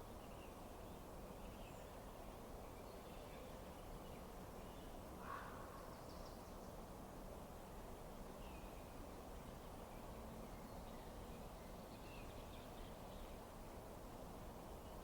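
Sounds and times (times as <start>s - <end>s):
low rushing background noise: 0.0s - 15.0s.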